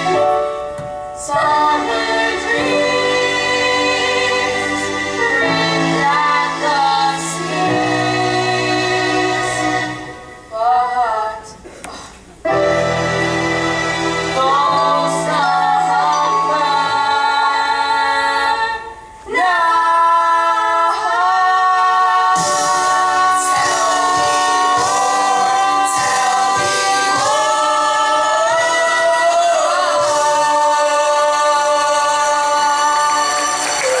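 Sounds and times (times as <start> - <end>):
musical accompaniment: 0.0 - 34.0
young voices singing in harmony: 0.0 - 34.0.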